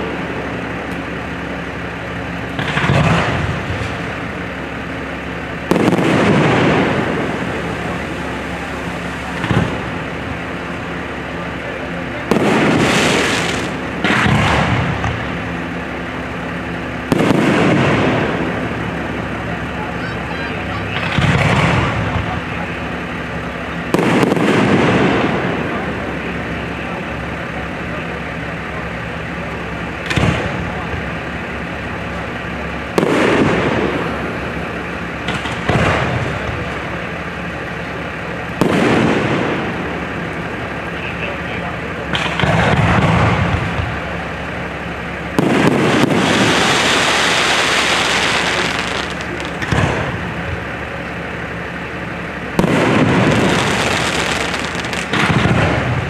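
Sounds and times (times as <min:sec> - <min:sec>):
fireworks booming: 0:00.0 - 0:56.0
fireworks crackle and rumble: 0:00.0 - 0:56.0.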